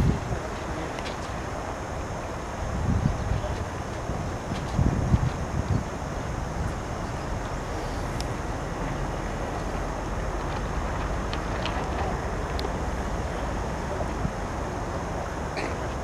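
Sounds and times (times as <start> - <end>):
rushing wind: 0.0 - 16.0
water rushing past boat: 0.0 - 16.0.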